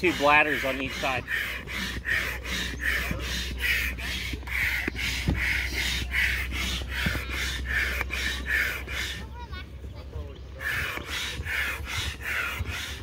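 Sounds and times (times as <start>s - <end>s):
hand pump whooshing air: 0.0s - 9.4s, 10.5s - 13.0s.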